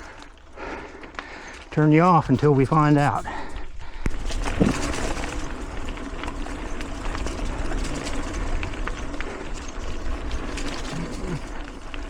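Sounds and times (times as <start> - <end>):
bike tyres on dirt trail: 0.0 - 12.0
rattling clicks from bike: 0.0 - 12.0.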